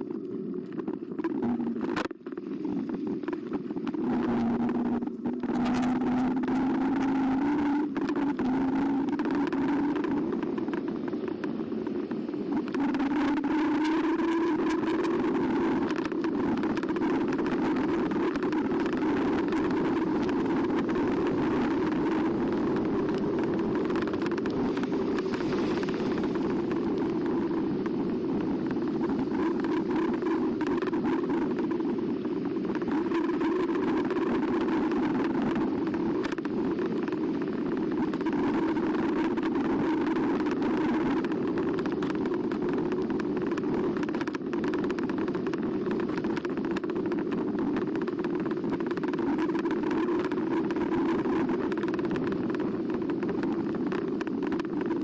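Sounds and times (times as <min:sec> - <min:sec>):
ebike ride rumble: 0:00.0 - 0:55.0
rapid crackling patter: 0:00.0 - 0:55.0
wind across microphone: 0:00.0 - 0:55.0.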